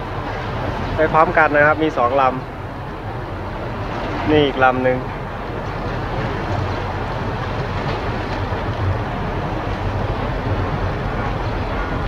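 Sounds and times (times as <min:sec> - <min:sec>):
continuous noise: 0:00.0 - 0:12.0
low mechanical rumble: 0:00.0 - 0:12.0.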